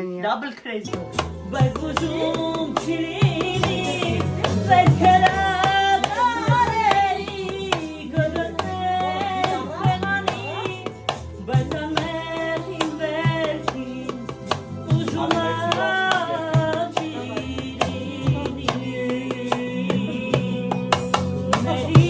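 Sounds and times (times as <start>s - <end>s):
drum beats: 0.9s - 22.0s
person singing: 0.9s - 22.0s
steady bass line: 0.9s - 22.0s.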